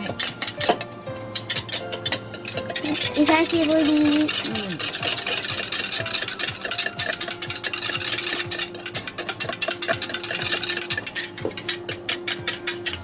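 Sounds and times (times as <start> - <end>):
whisk rattling against plastic cup: 0.0 - 13.0.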